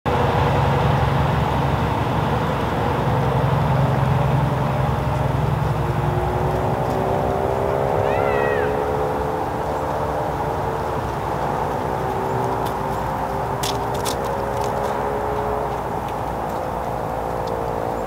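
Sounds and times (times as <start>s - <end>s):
distant engine drone: 0.1s - 18.0s.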